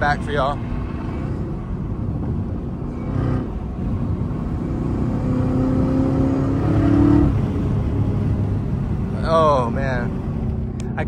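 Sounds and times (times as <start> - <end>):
car engine under throttle: 0.0 - 11.0.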